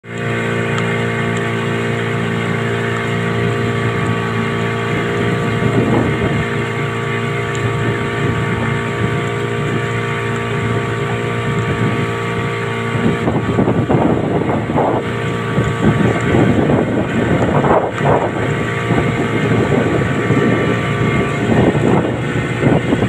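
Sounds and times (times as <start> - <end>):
motorboat engine humming: 0.0 - 23.0
water rushing: 0.0 - 23.0
wind: 0.0 - 23.0.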